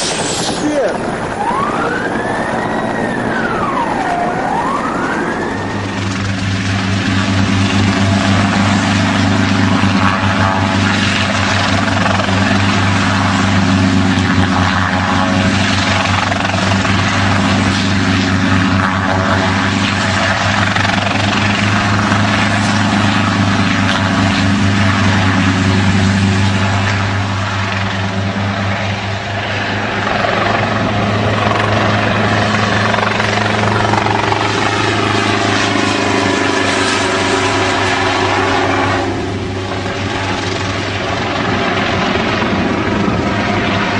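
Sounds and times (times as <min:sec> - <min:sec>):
helicopter engine drone: 0:00.0 - 0:43.9.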